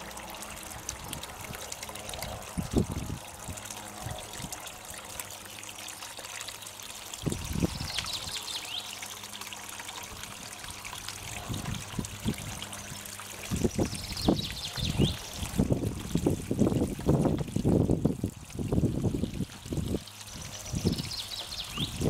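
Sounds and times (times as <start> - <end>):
water trickling into pond: 0.0 - 22.0.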